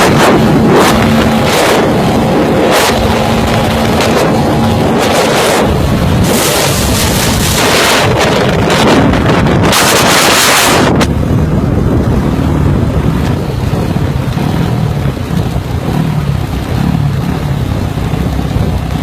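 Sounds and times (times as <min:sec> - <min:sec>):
vehicle engine running: 0:00.0 - 0:19.0
wind hitting microphone: 0:00.0 - 0:19.0.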